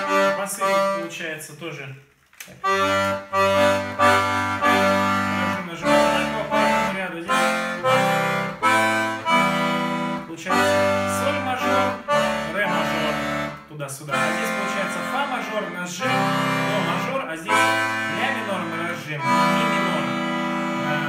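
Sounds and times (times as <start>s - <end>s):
button accordion chords: 0.0s - 1.3s, 2.6s - 21.0s.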